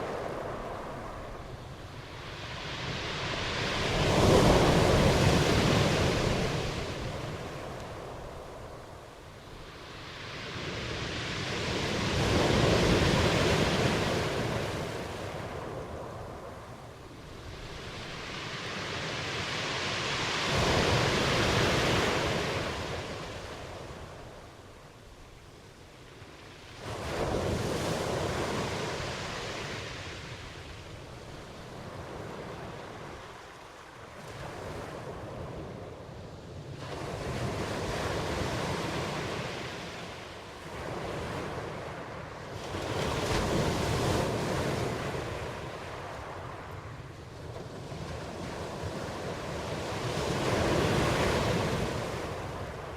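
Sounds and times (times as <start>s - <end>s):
ocean waves breaking on shore: 0.0s - 52.9s.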